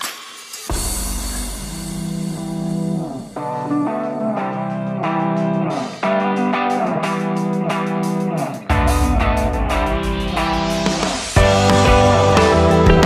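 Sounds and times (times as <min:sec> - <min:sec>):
guitar music with bass line: 0:01.9 - 0:13.0.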